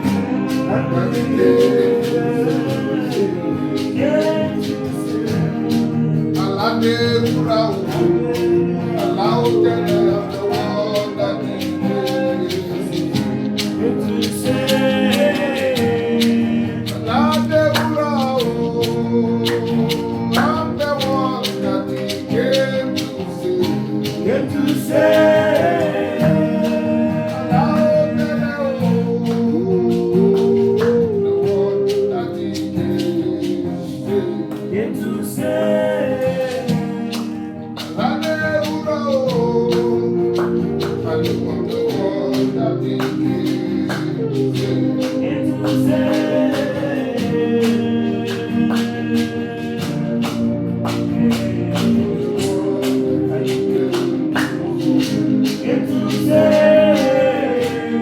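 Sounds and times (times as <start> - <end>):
gospel song with band: 0.0 - 58.0.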